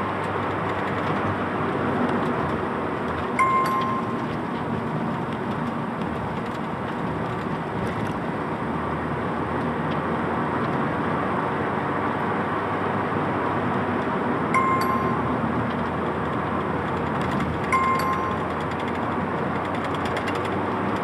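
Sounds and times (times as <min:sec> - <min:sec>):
in-cabin road and engine noise: 0:00.0 - 0:21.0.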